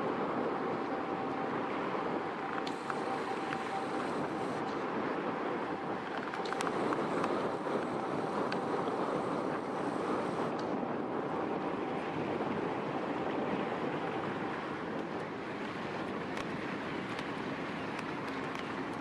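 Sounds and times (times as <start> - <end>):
faint ship engine hum: 0.0 - 19.0
wind: 0.0 - 19.0.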